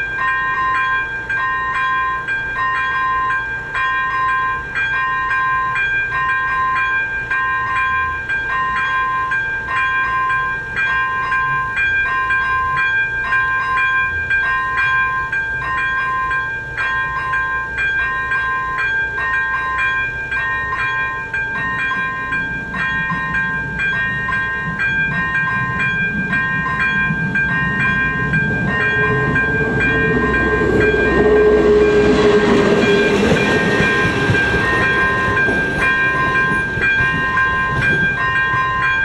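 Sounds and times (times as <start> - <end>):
level crossing warning bell: 0.0 - 39.0.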